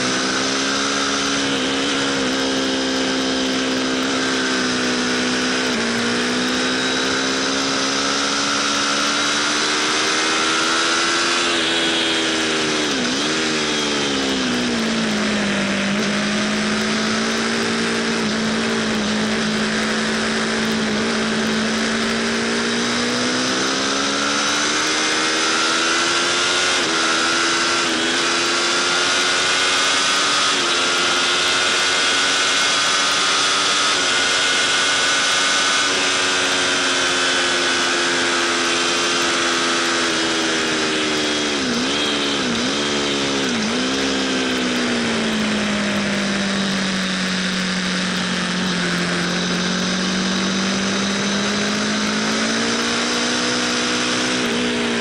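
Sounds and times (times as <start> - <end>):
motorcycle engine at racing revs: 0.0 - 55.0.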